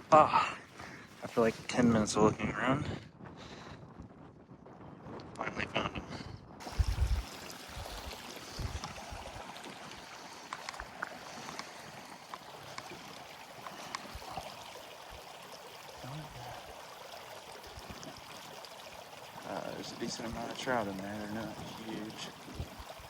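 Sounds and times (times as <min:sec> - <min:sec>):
creek flowing over rocks: 0:00.0 - 0:02.3, 0:06.6 - 0:23.0.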